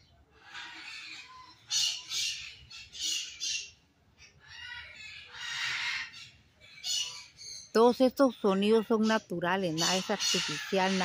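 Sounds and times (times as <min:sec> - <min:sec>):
birds screaming harsh calls: 0:00.0 - 0:11.0.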